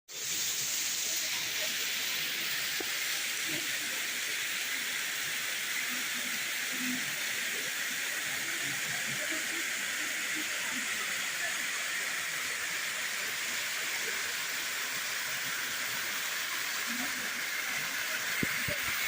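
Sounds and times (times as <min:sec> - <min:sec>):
waterfall rushing: 0:00.1 - 0:19.0.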